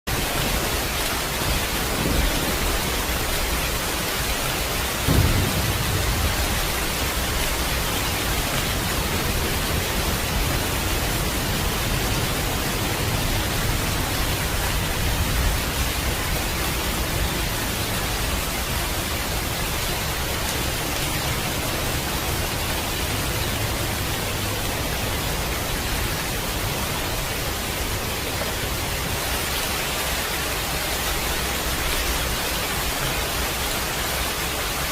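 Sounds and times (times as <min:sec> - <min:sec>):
heavy rain: 0:00.0 - 0:34.9
thunder rumble: 0:00.1 - 0:34.4.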